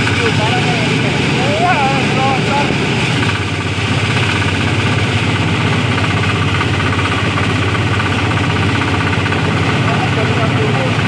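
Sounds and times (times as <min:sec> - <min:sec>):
rice thresher running: 0:00.0 - 0:11.0.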